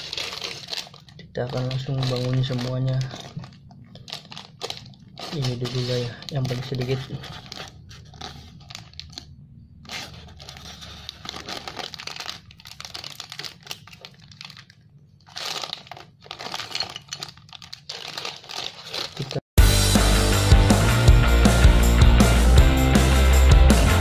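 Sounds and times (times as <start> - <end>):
plastic bag crinkling and tearing: 0.0 - 19.4.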